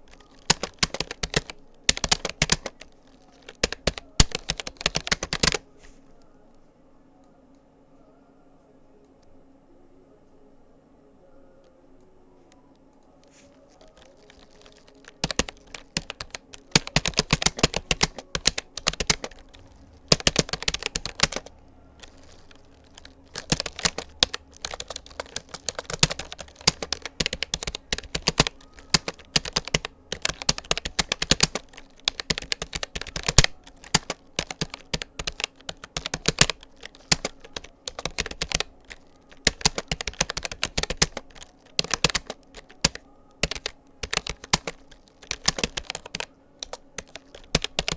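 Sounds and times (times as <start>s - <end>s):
fast keyboard typing: 0.0s - 5.6s, 13.6s - 47.9s.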